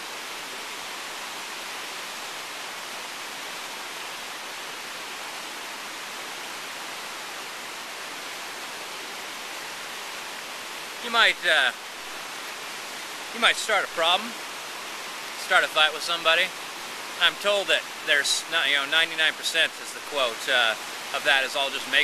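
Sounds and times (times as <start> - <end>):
outdoor rushing hiss: 1.0 - 22.0.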